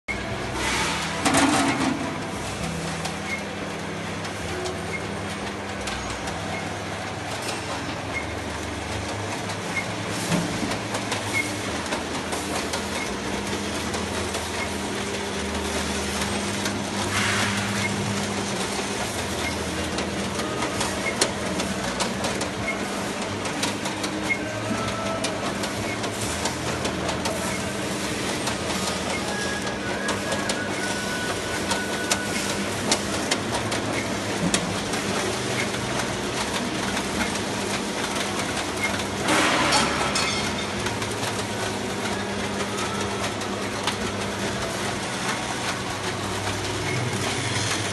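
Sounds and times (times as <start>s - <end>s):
machine drive humming: 0.1s - 47.9s
rollers clicking and knocking: 0.6s - 2.7s, 4.2s - 47.9s.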